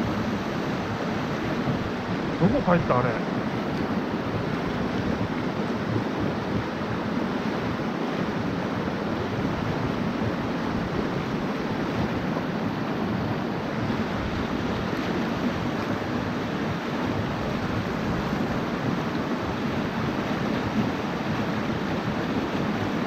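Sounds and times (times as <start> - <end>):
mountain stream water rushing: 0.0 - 23.0.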